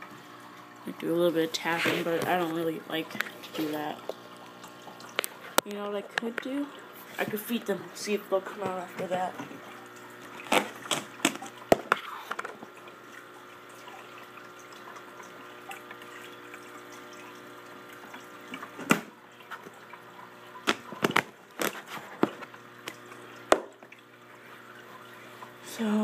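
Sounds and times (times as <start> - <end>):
aquarium filter humming: 0.0 - 26.0
water trickling: 0.0 - 26.0.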